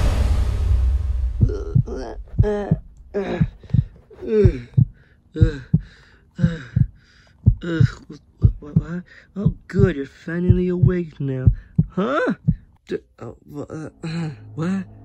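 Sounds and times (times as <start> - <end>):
heartbeat lub-dub: 0.0 - 12.8.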